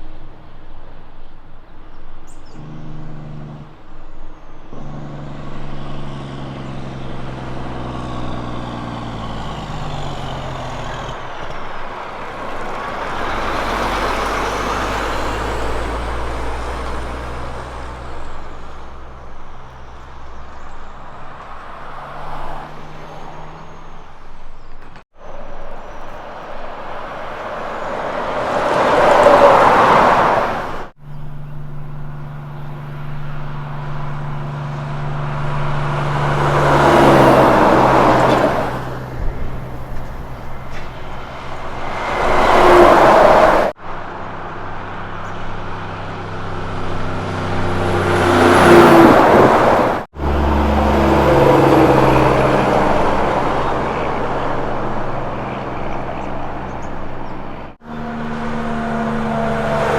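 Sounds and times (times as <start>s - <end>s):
heavy trucks driving past: 0.0s - 59.9s.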